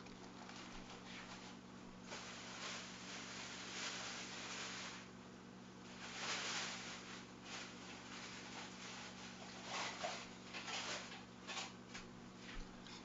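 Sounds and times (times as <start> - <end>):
plastic cups rustling and scraping: 0.0 - 5.1, 5.9 - 13.0
low electrical hum: 0.0 - 13.0.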